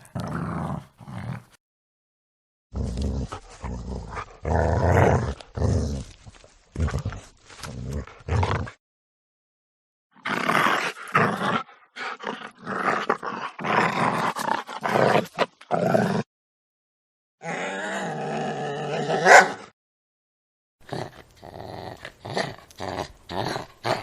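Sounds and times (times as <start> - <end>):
dog growling and snarling: 0.0 - 1.6, 2.7 - 8.8, 10.2 - 16.3, 17.4 - 19.7, 20.8 - 24.0.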